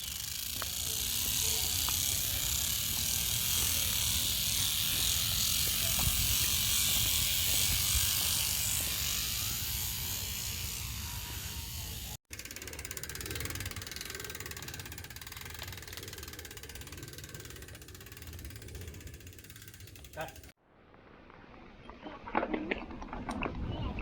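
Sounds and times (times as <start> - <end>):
bicycle hub ratcheting buzz: 0.0 - 20.6.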